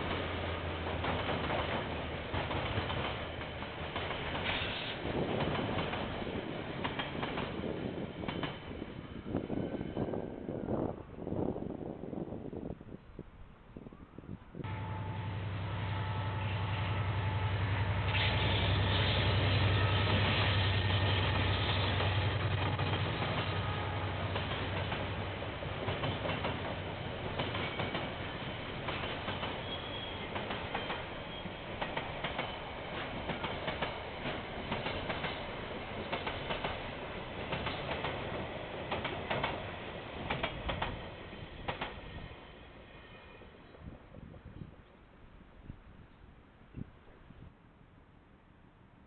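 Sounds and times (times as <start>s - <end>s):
diesel locomotive engine drone: 0.0s - 12.7s, 14.2s - 45.5s
train rumbling past: 0.0s - 12.9s, 14.6s - 45.6s.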